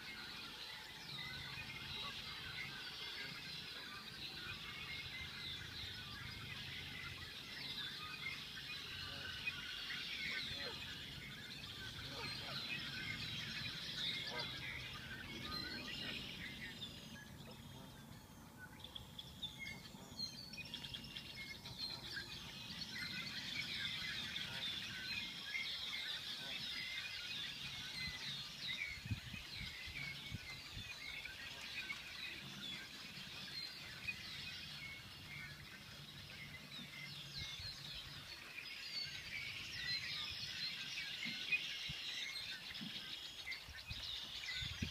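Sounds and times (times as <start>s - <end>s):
blackbirds chirping and whistling: 0.0s - 44.9s.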